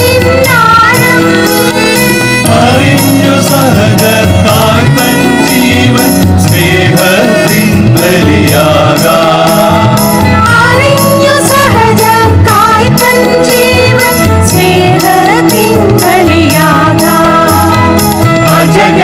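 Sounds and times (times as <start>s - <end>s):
jingling percussion beat: 0.0s - 19.0s
person singing: 0.0s - 19.0s.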